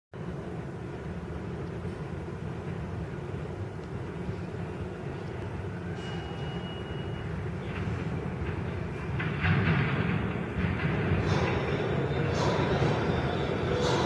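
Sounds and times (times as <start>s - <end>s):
subway train rumbling in tunnel: 0.2s - 14.0s.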